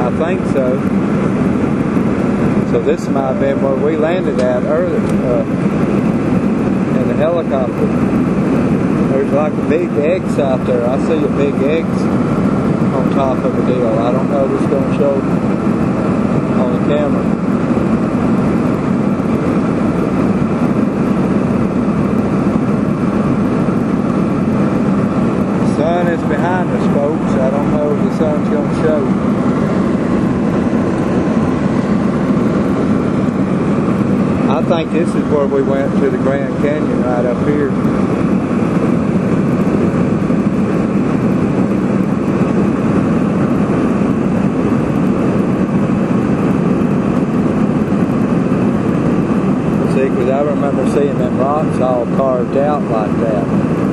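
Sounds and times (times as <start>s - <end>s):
rushing air: 0.0s - 51.9s
jet engine drone: 0.0s - 53.9s
low hum: 0.0s - 53.9s.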